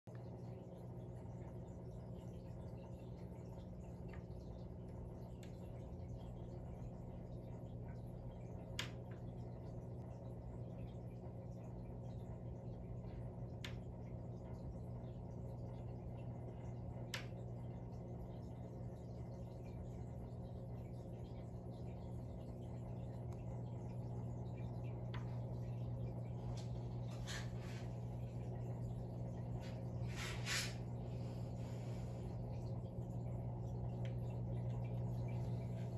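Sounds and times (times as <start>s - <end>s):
aquarium equipment humming: 0.1s - 35.9s.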